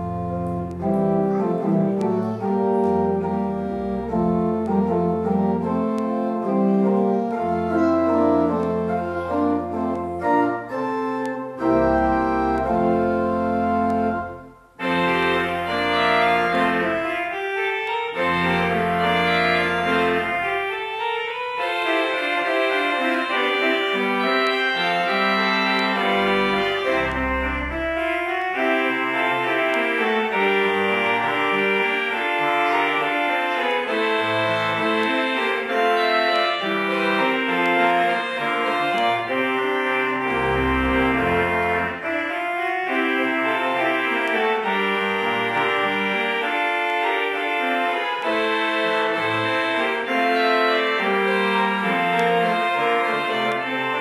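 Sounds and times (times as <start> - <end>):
pipe organ playing chords: 0.0 - 54.0.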